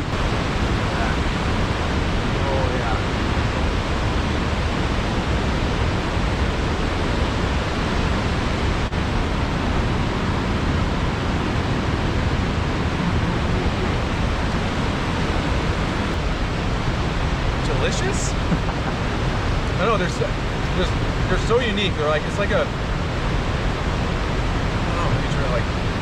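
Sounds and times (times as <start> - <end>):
waterfall roar: 0.0 - 26.0.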